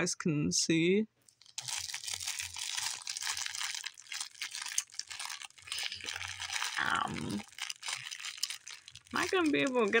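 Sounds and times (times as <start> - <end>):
plastic packaging crinkling: 1.2 - 10.0.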